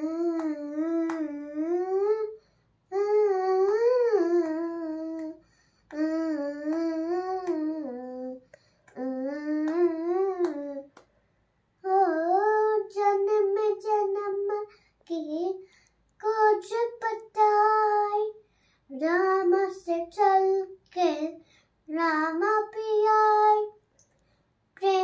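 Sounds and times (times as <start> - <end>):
girl singing devotional tune: 0.0 - 25.0.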